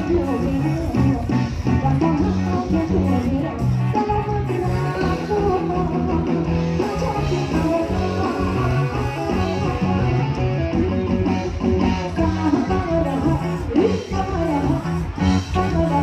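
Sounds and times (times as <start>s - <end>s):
electric guitar: 0.0s - 16.0s
live band music: 0.0s - 16.0s
repeating bass line: 0.0s - 16.0s.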